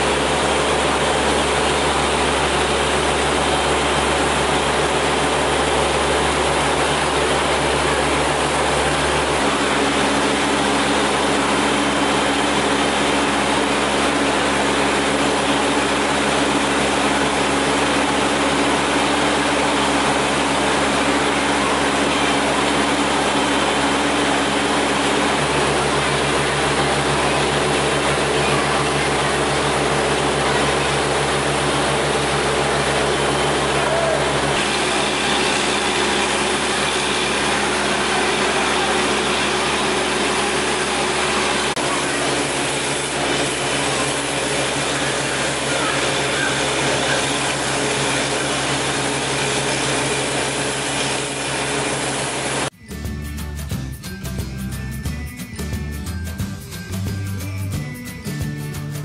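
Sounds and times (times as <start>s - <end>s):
compressed air blasting water: 0.0s - 52.7s
air compressor engine running: 0.0s - 59.0s.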